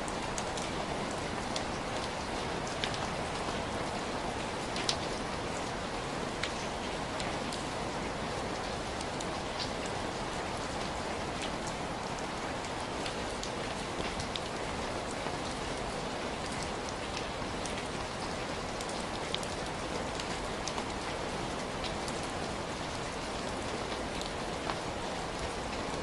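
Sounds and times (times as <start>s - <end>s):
heavy rain falling: 0.0s - 26.0s
raindrops ticking close by: 0.0s - 26.0s.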